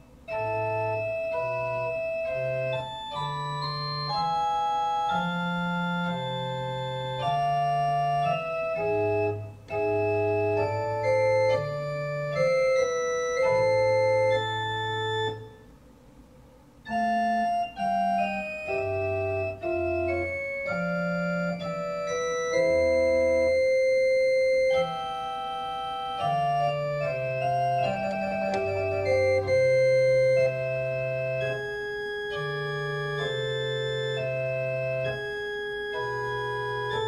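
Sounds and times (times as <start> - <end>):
organ playing sustained chords: 0.0 - 15.8, 16.8 - 37.0.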